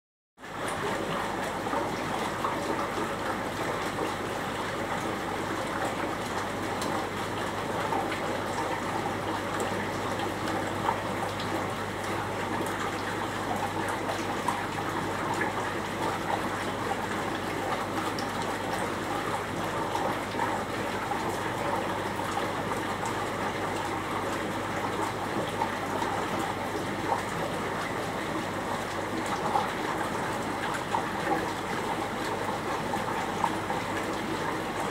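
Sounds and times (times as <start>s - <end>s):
water trickling in aquarium: 0.4s - 34.9s.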